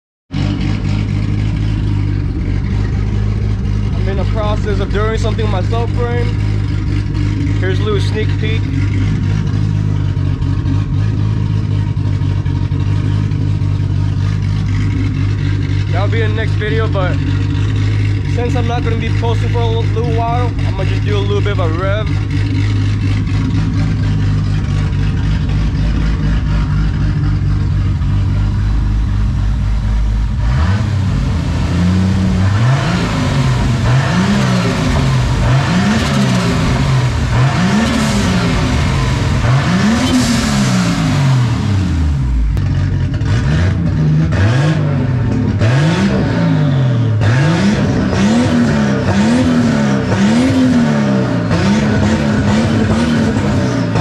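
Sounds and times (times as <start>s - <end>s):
car engine idling and revving: 0.3s - 54.0s.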